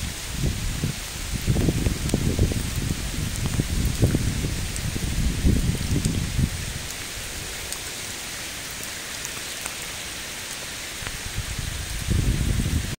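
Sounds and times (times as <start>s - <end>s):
rain on water and leaves: 0.0s - 13.0s.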